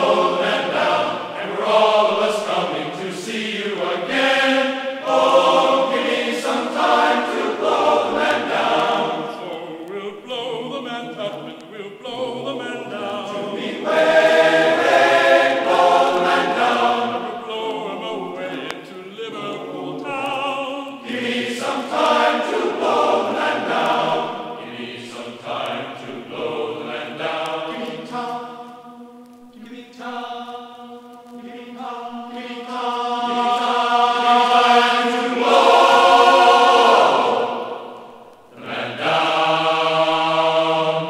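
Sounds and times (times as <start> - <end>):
choir singing long held notes: 0.0 - 41.0.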